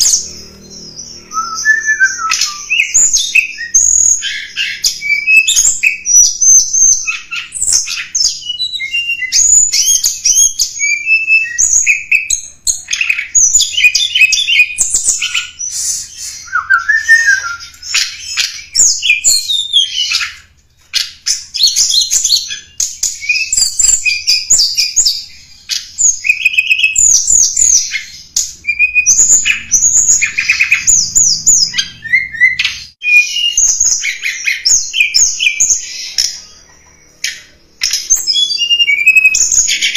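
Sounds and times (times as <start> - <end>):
bird song lure call: 0.0 - 39.9.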